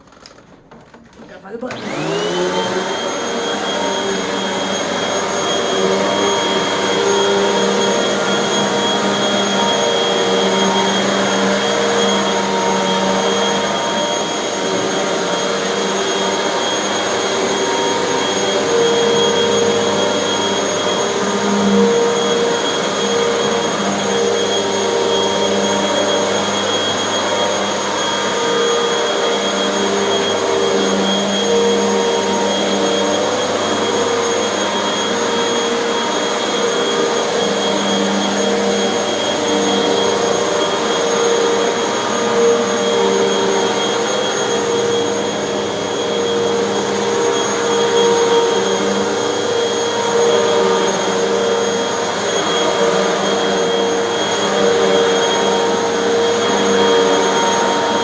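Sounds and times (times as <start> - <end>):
vacuum cleaner running on carpet: 0.0 - 58.0.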